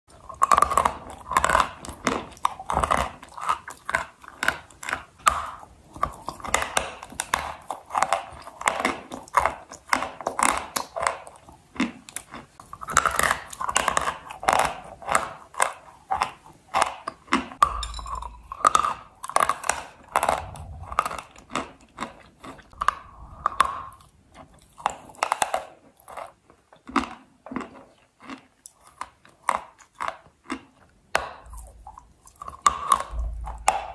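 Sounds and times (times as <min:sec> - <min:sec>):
crunchy chewing: 0:00.1 - 0:17.6, 0:18.3 - 0:33.9.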